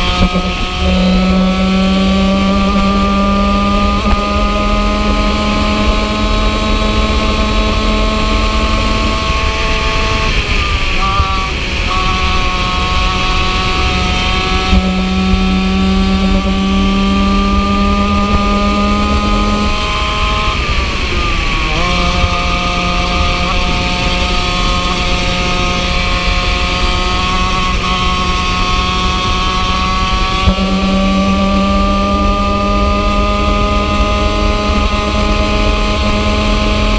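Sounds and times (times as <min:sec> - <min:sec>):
two-stroke kart engine revving: 0:00.0 - 0:36.9.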